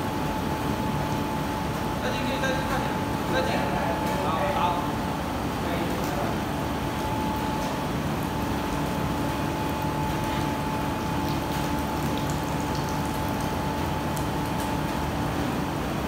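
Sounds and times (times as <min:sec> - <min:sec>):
water chiller humming: 0:00.0 - 0:16.0.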